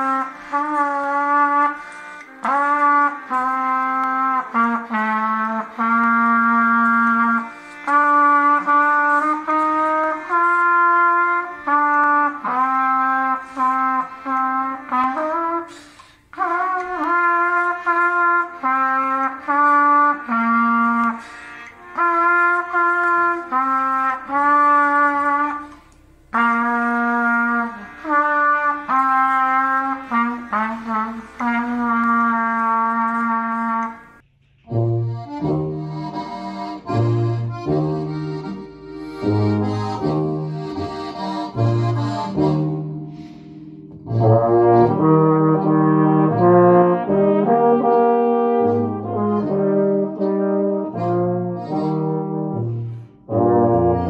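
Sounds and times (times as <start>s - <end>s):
trumpet melody: 0.0s - 54.0s.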